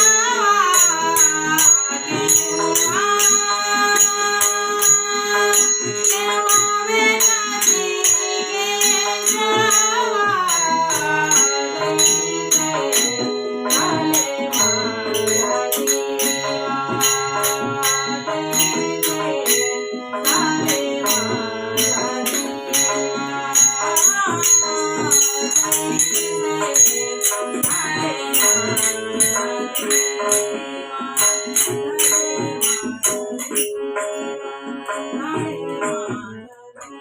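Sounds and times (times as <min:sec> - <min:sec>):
rattling jingling percussion: 0:00.0 - 0:34.3
sustained melodic notes: 0:00.0 - 0:34.6.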